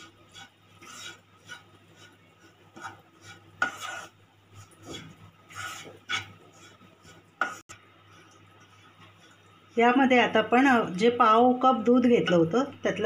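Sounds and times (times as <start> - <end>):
spatula scraping non-stick pan: 0.0 - 10.7.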